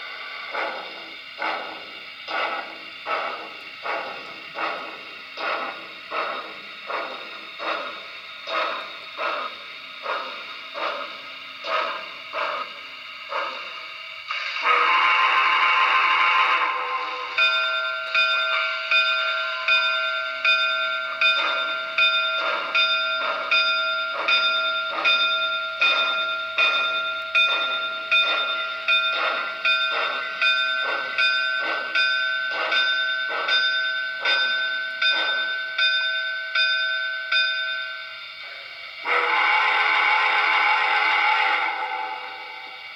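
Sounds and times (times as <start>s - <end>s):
loud steam hiss: 0.0s - 42.9s
model steam locomotive chuffing: 0.0s - 42.9s.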